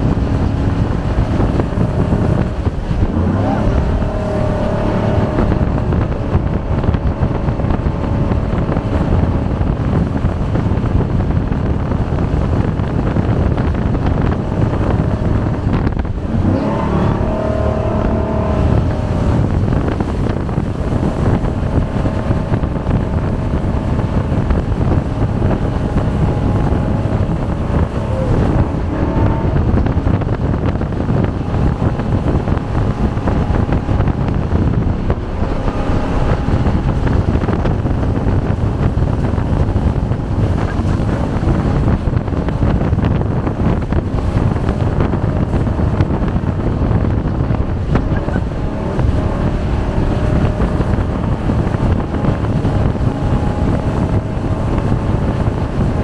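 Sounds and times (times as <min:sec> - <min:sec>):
jet boat engine running fast: 0:00.0 - 0:56.0
wind noise on microphone: 0:00.0 - 0:56.0.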